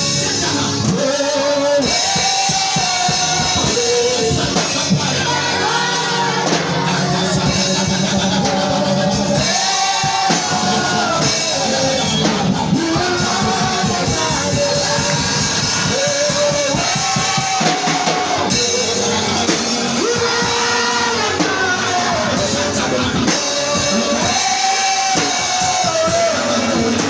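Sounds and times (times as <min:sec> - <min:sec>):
drum kit beat: 0:00.0 - 0:27.0
guitar: 0:00.0 - 0:27.0
person singing: 0:00.0 - 0:27.0.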